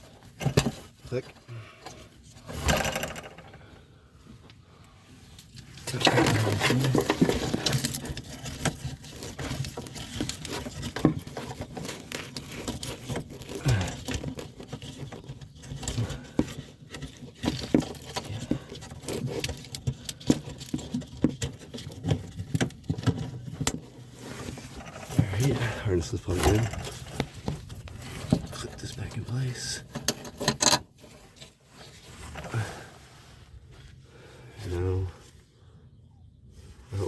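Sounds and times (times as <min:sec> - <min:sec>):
plastic and wiring rustling: 0:00.0 - 0:03.5, 0:05.2 - 0:34.0.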